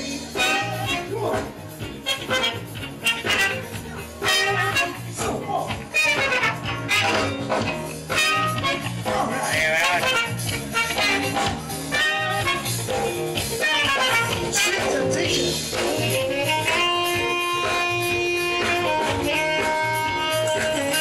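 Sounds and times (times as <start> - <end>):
blues-jazz guitar music: 0.0 - 21.0.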